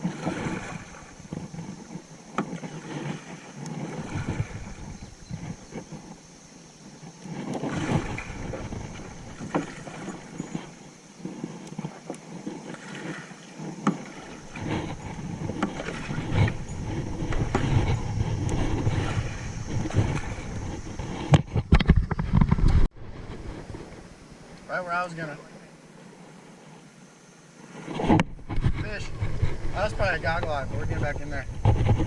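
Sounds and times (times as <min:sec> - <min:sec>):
paddle splashes: 0:00.0 - 0:32.0
water moving against hull: 0:00.0 - 0:32.0.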